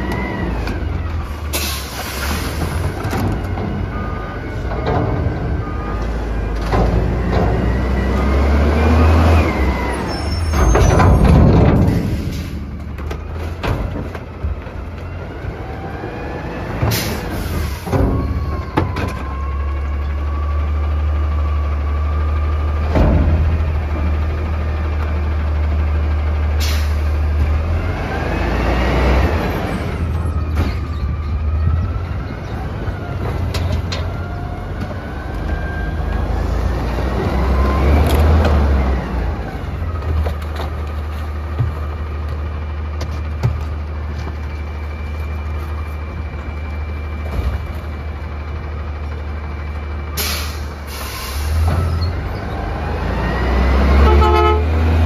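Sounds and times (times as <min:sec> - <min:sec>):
garbage truck engine revving: 0:00.0 - 0:45.0, 0:46.0 - 0:55.0.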